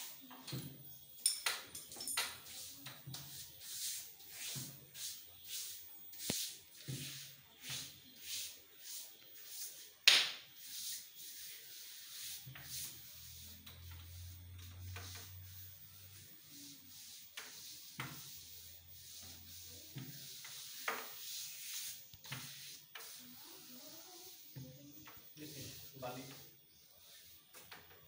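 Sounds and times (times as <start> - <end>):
hands smoothing wallpaper swishes: 2.5 - 28.0.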